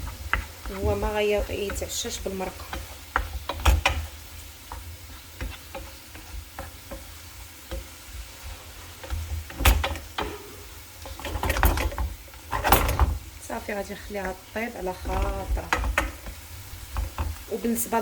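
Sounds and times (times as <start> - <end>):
utensil scraping and knocking in pan: 0.0 - 17.8.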